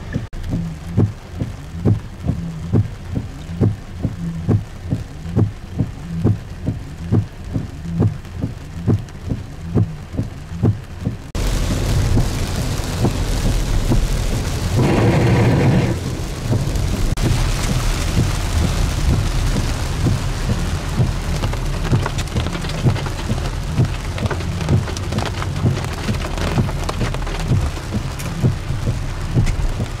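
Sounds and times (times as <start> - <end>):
heavy rain and water rush: 0.0 - 30.0
rhythmic low thumping: 0.0 - 30.0.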